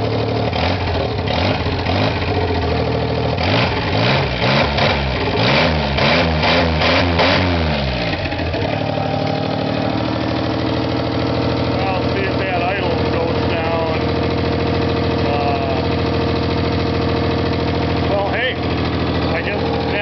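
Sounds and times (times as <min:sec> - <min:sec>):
vehicle engine idling and revving: 0:00.0 - 0:20.0.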